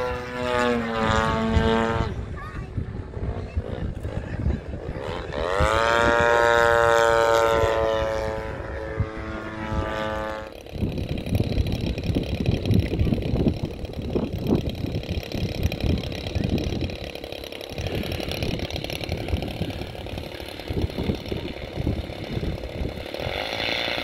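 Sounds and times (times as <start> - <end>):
model plane engine idling: 0.0 - 24.0
wind buffeting microphone: 0.0 - 24.0.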